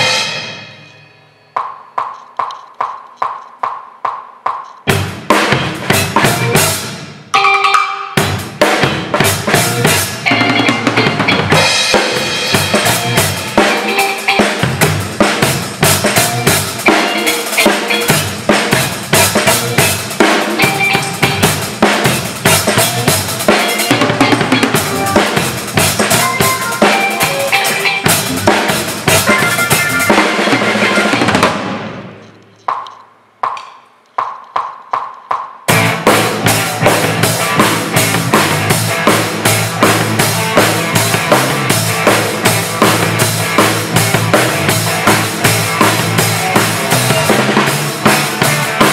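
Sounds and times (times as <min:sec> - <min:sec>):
drum kit groove: 0:00.0 - 0:01.0, 0:01.6 - 0:48.9
backing track: 0:00.0 - 0:48.9.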